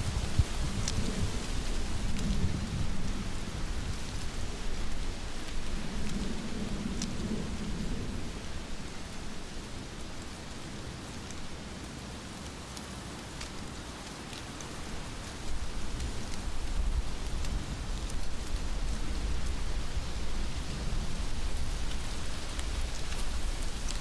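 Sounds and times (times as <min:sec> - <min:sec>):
heavy rain falling: 0:00.0 - 0:24.0
sharp raindrop ticks: 0:00.1 - 0:24.0.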